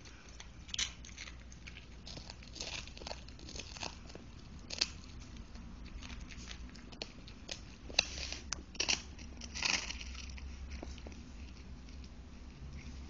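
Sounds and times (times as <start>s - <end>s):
dog crunching a hard chew: 0.0s - 12.2s.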